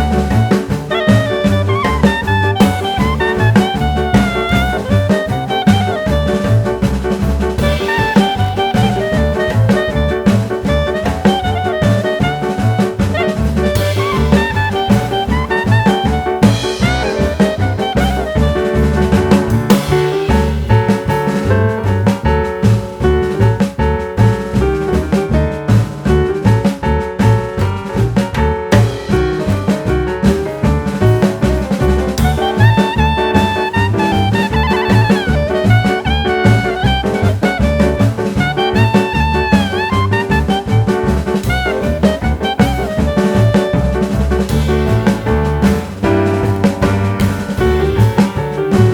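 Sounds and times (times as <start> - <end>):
horn playing bending notes: 0.0 - 23.4, 32.1 - 48.9
brass or saxophone lines: 0.0 - 23.6, 32.2 - 48.9
drum kit beat: 0.0 - 48.9.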